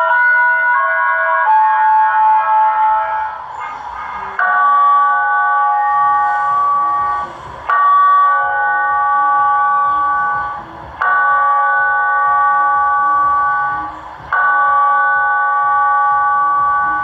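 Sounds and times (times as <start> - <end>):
church bell tolling: 0.0 - 17.0.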